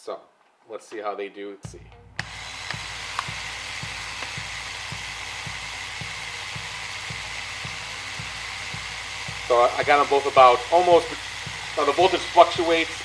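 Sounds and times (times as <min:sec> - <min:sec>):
slot car motors whining: 0:02.2 - 0:13.0.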